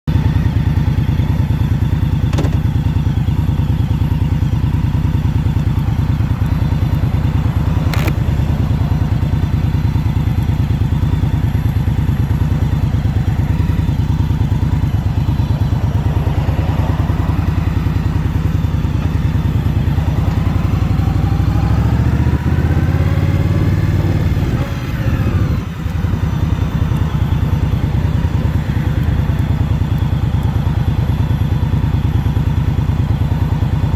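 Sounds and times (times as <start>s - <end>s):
motorcycle engine accelerating: 0.1s - 33.9s.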